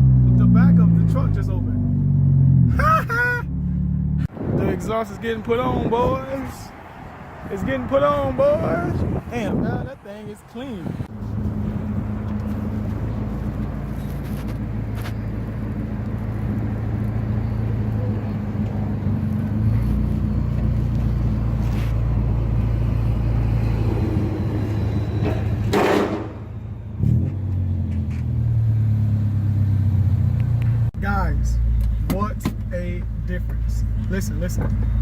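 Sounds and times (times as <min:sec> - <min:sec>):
car engine droning: 0:00.0 - 0:09.2, 0:10.8 - 0:35.0.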